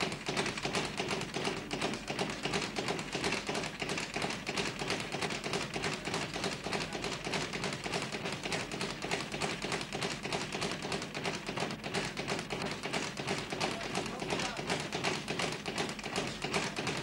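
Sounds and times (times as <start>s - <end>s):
boxing training tapping and thuds: 0.0s - 17.0s.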